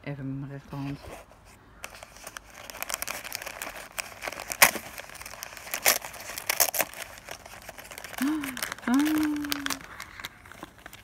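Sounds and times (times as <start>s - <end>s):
tissue paper crinkling: 0.7s - 11.0s.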